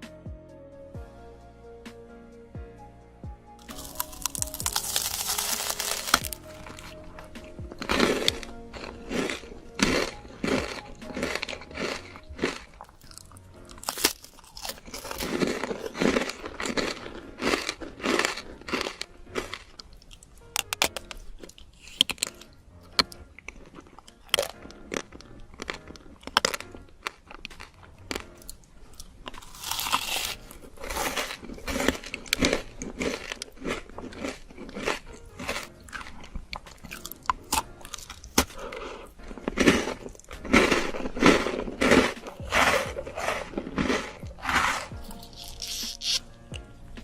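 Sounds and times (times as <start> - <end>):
crunchy food chewing: 3.6 - 47.0.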